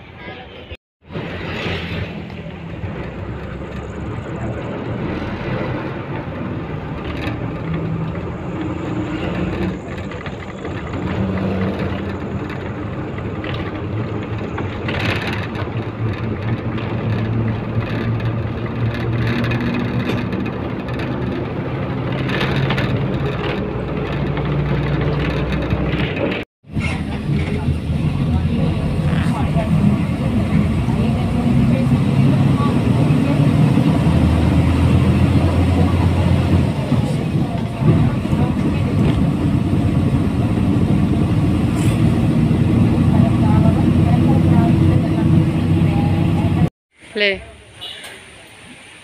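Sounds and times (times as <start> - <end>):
bus engine rumble: 0.0 - 49.0.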